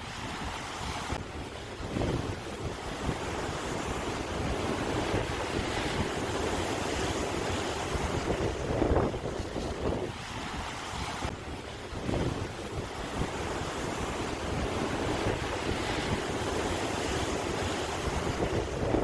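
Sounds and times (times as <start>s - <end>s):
waves breaking: 0.0s - 19.0s.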